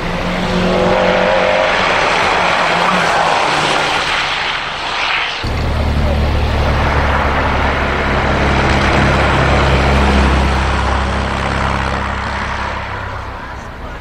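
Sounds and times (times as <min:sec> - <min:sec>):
race car engine driving past: 0:00.0 - 0:14.0.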